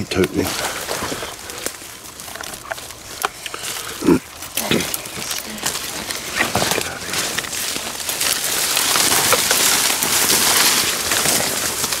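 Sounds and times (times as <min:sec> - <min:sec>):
dry leaves crackling underfoot: 0:00.0 - 0:12.0.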